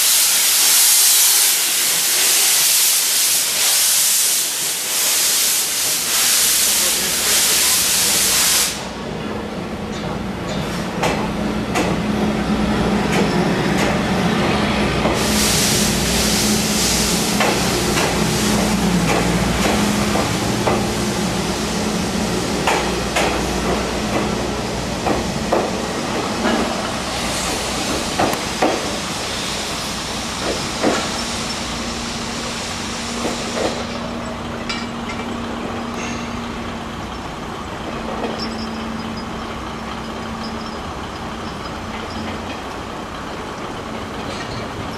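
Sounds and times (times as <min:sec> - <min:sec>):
steam hissing: 0:00.0 - 0:09.2, 0:10.6 - 0:44.9
train coaches rolling past: 0:00.0 - 0:44.9.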